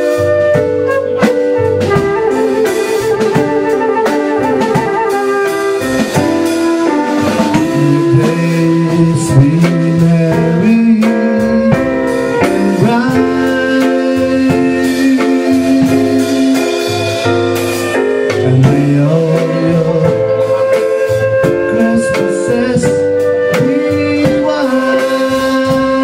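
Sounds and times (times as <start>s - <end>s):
drum kit: 0.0s - 26.0s
flute: 0.0s - 26.0s
keyboard: 0.0s - 26.0s.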